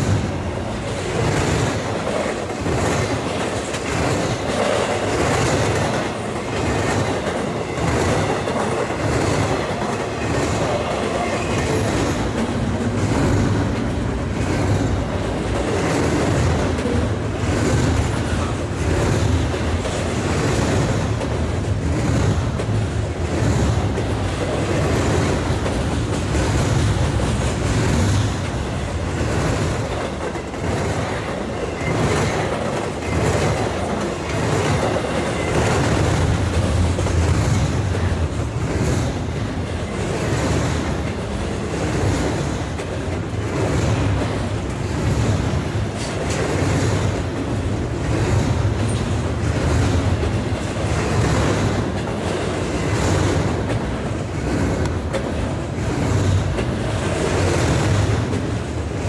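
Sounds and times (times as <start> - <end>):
freight train rumbling past: 0.0 - 59.0
wheels striking rail joints: 0.0 - 59.0.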